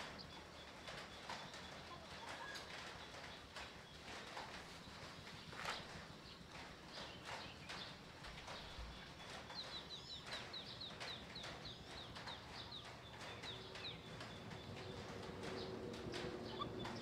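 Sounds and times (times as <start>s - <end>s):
bird chirping: 0.0s - 17.0s
faint scattered clicks: 0.0s - 17.0s.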